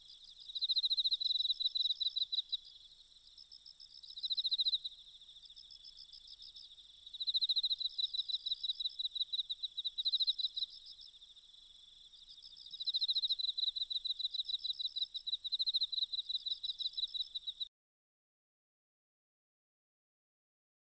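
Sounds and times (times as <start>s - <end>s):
insects chirring in pulsed trills: 0.0s - 17.7s.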